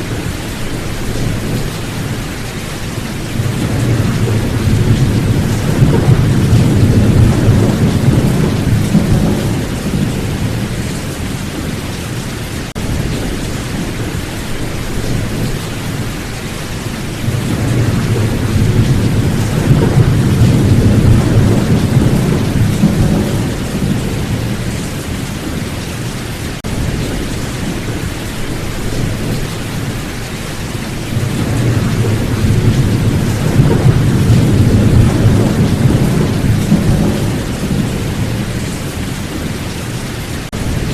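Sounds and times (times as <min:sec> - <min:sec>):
thunder rumbling: 0:00.0 - 0:26.0, 0:26.6 - 0:40.9
rain hiss: 0:00.0 - 0:40.9.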